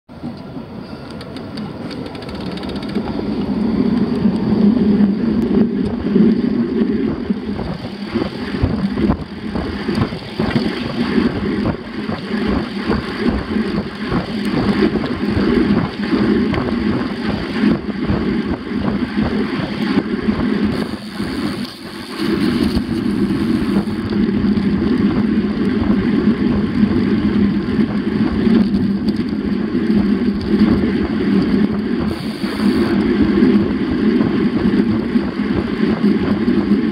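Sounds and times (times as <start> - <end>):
wind buffeting microphone: 0.2 - 36.9
bicycle tyres rumbling on pavement: 1.6 - 36.9.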